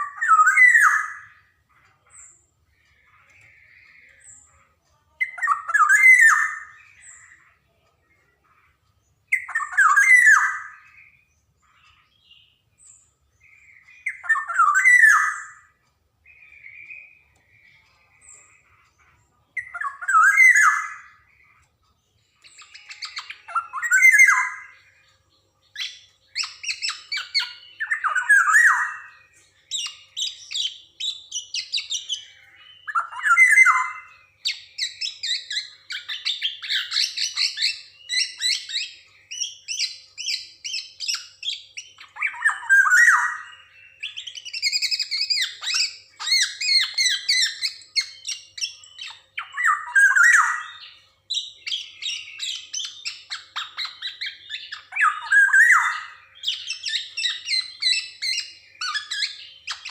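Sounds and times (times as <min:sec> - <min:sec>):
bird singing with harsh squawks: 0:00.0 - 0:59.9.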